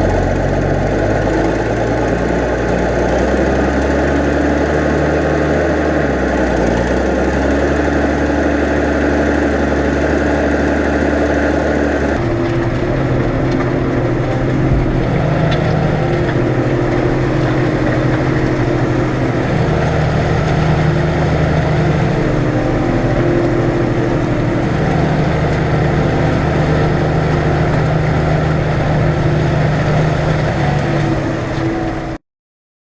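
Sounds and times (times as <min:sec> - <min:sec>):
tractor diesel engine running: 0:00.0 - 0:32.2.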